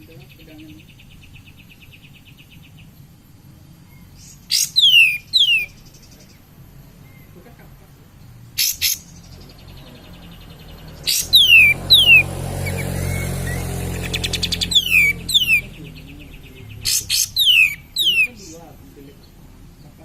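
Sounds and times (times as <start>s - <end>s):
bulbul singing: 0.0s - 20.0s.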